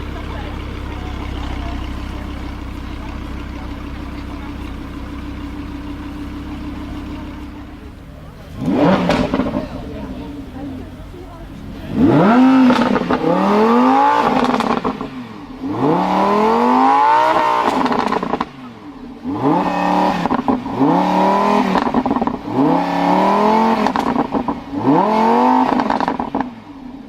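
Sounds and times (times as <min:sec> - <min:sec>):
exhaust crackles and pops: 0:00.0 - 0:26.5
sports car engine revving: 0:00.0 - 0:27.0.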